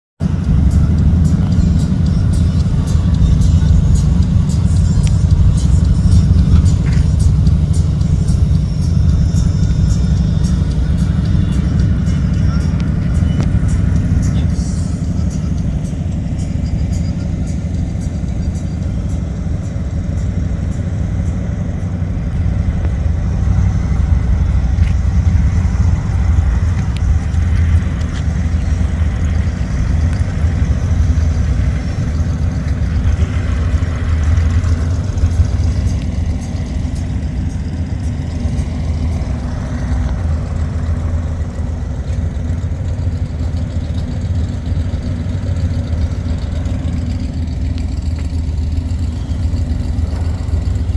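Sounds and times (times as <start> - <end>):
truck engines rumbling: 0.2 - 50.9.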